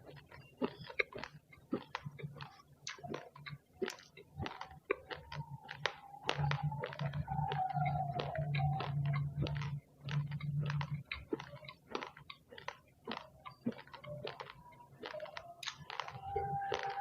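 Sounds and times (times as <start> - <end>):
low steady hum: 0.0 - 17.0
rice grains being chewed: 0.0 - 17.0.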